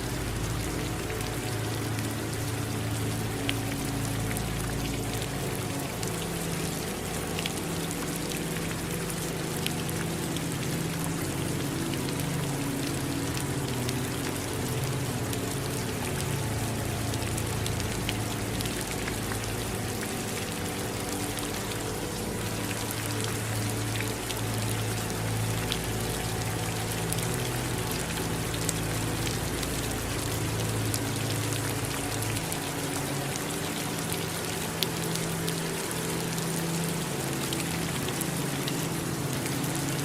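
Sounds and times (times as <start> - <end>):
rain drops ticking: 0.0 - 40.0
running water rushing: 0.0 - 40.0.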